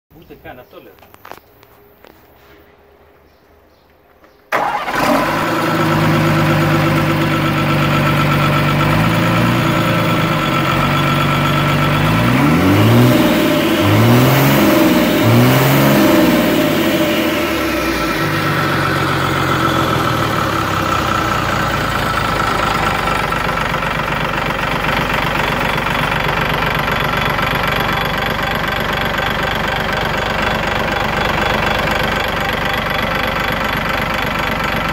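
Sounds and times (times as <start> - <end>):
diesel engine idling and revving: 4.5 - 34.9.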